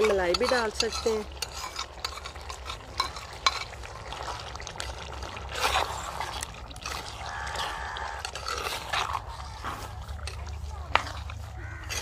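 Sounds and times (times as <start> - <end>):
metal spoon scraping a pot: 0.0 - 3.9, 4.8 - 12.0
wet sloshing: 0.0 - 12.0.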